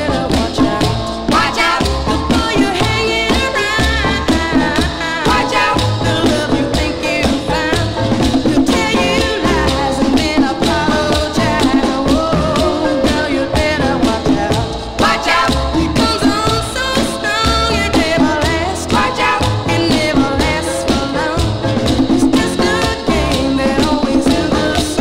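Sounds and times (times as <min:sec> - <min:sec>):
oldies band music: 0:00.0 - 0:25.0.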